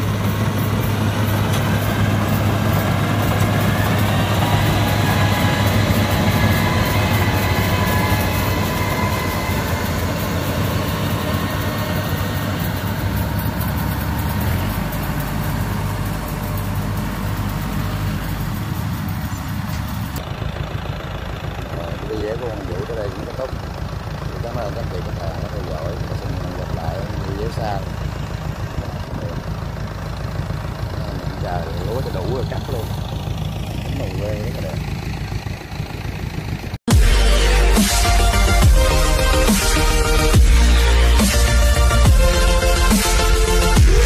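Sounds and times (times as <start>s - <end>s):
diesel engine running: 0.0s - 44.0s
machinery whining: 0.0s - 44.0s.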